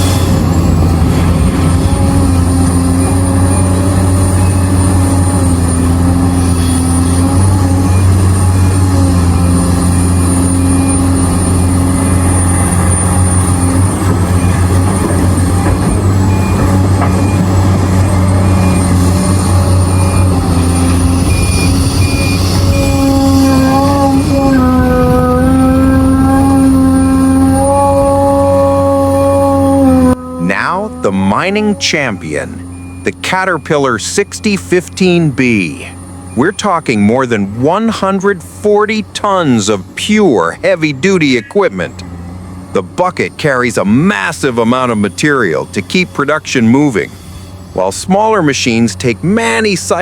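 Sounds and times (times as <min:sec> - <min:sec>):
heavy diesel engines droning: 0:00.0 - 0:50.0.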